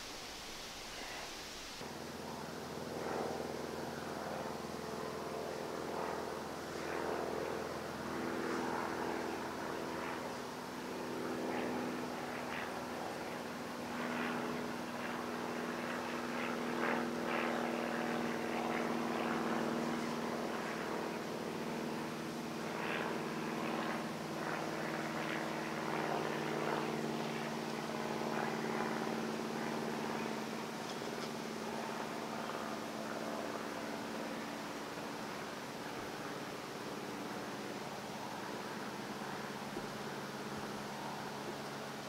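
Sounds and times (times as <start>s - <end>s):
steady engine drone: 0.0s - 42.0s.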